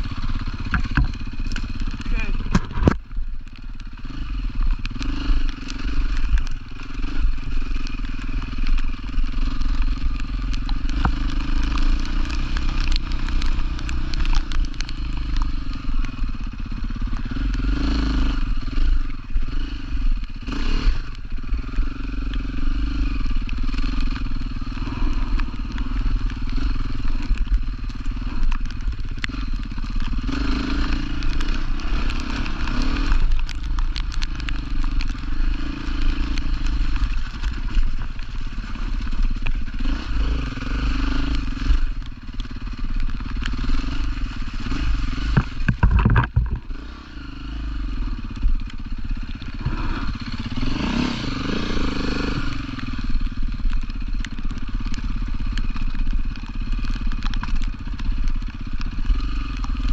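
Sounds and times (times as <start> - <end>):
motorcycle engine revving: 0.0 - 59.9
small clicks and knocks: 0.4 - 17.7, 23.2 - 40.4, 41.1 - 46.8, 52.1 - 59.9.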